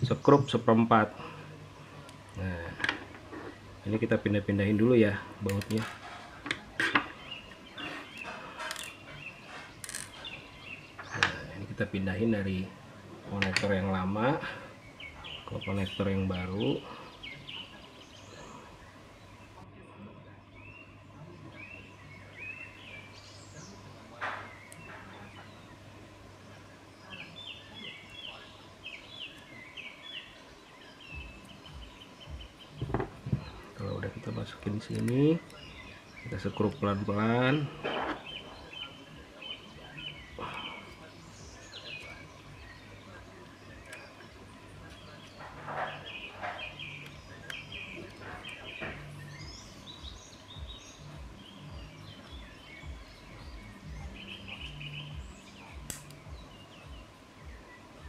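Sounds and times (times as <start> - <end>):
background noise: 0.0 - 58.0
bird chirping: 0.0 - 58.0
faint background noise: 0.0 - 58.0.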